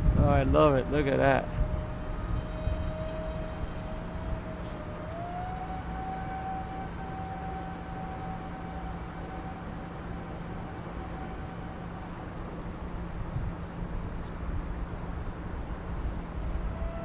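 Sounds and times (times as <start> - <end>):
model airplane motor whining: 0.0 - 17.0
wind rumble on microphone: 0.0 - 17.0.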